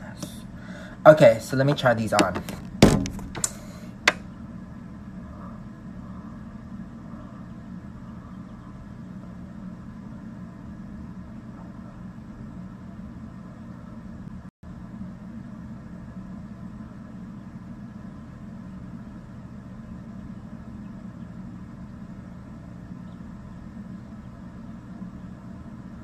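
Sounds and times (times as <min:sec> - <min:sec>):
ceiling fan humming: 0:00.0 - 0:26.0.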